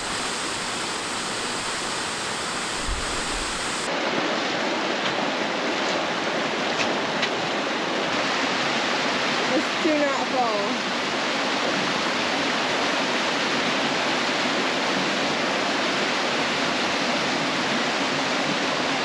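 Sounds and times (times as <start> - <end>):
waterfall rushing over rocks: 0.0 - 19.0.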